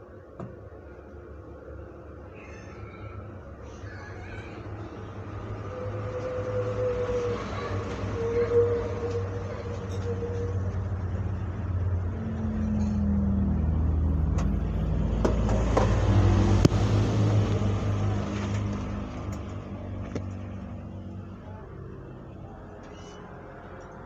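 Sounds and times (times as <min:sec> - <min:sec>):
motor vehicle passing: 0:04.2 - 0:24.0.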